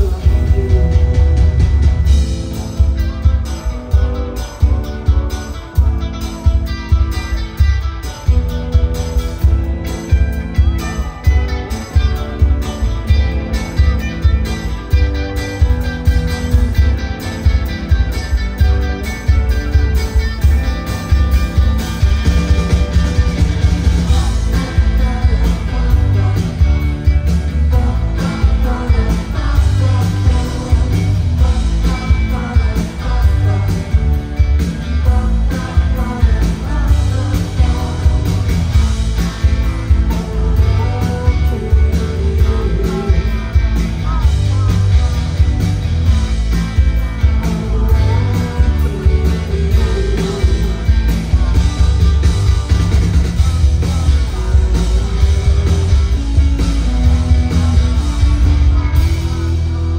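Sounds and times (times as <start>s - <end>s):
person singing: 0.0s - 8.8s, 9.4s - 59.9s
live pop-rock band: 0.0s - 59.9s.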